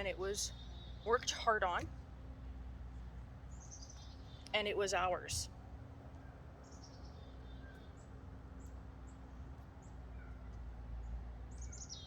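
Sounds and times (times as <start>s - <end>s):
small birds chirping: 0.0s - 5.5s, 6.1s - 12.0s
low background hum: 0.0s - 12.0s.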